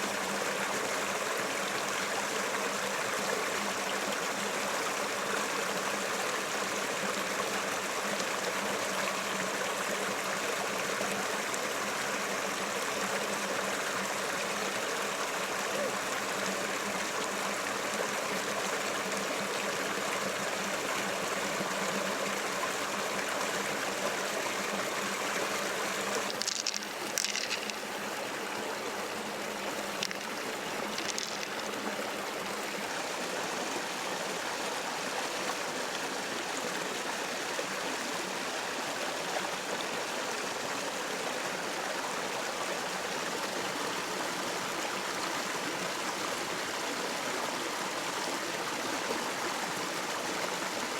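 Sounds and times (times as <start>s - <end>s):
river water flowing: 0.0s - 50.9s.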